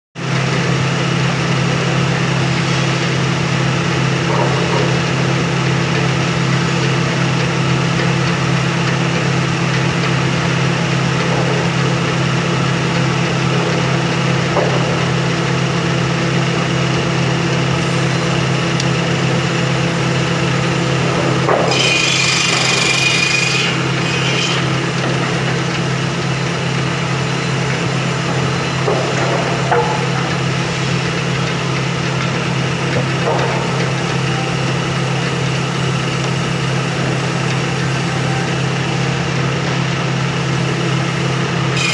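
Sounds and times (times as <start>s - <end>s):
sawmill machinery humming: 0.2s - 41.9s.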